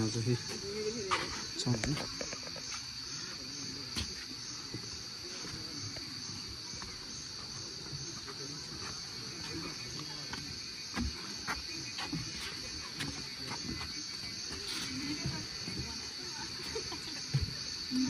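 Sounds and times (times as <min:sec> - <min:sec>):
insect chorus buzzing: 0:00.0 - 0:18.0.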